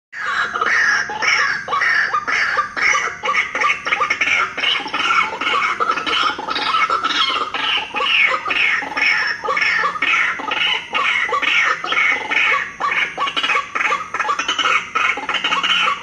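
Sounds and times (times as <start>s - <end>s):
harsh bird calls from lure: 0.2s - 16.0s.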